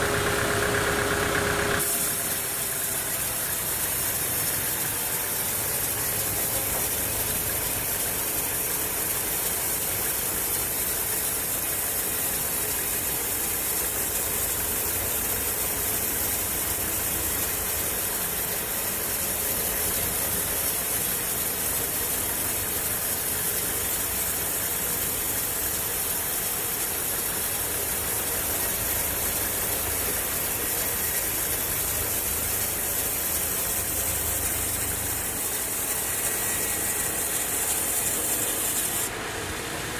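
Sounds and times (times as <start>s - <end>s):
sawmill engine and saw running: 0.0s - 39.9s.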